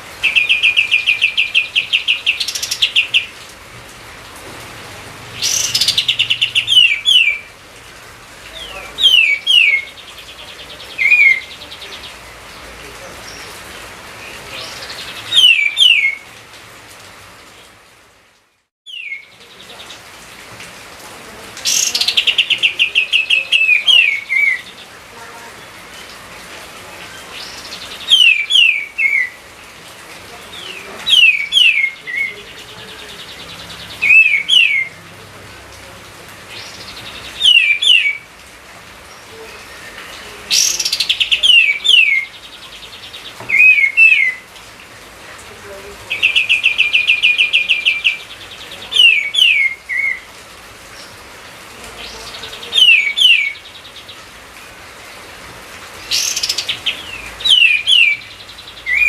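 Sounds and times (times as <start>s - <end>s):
songbird singing: 0.0s - 17.9s, 18.8s - 59.0s.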